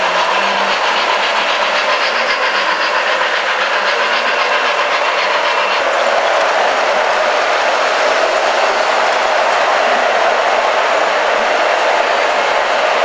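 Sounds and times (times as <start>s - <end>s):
model train motors whirring: 0.0s - 13.0s.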